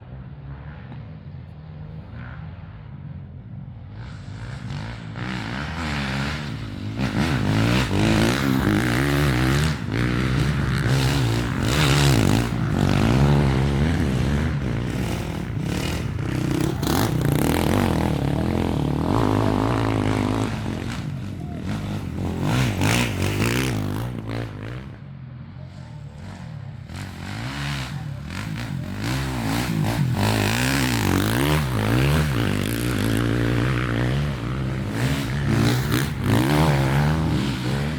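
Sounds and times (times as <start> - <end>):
racing engines revving hard: 4.1 - 24.9, 26.4 - 37.9.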